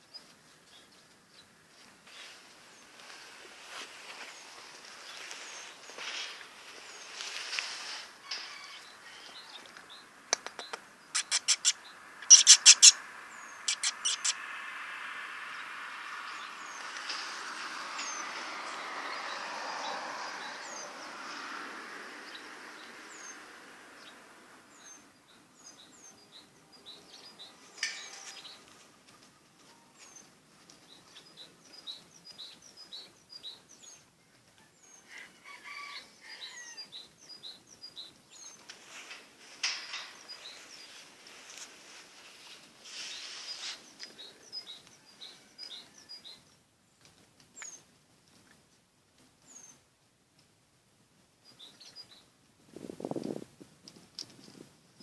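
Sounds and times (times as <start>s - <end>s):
small birds chirping: 0.0s - 50.0s, 51.3s - 53.4s.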